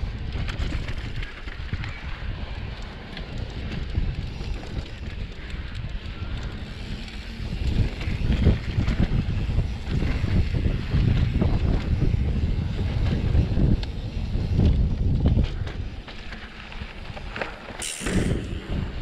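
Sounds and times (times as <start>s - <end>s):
wind buffeting microphone: 0.0s - 17.4s
bike rattle and tyre crunch: 0.0s - 19.0s.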